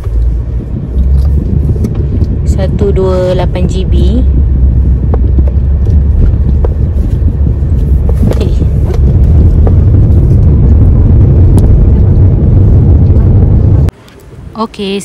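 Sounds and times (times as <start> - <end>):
low rumble inside car: 0.0 - 15.0.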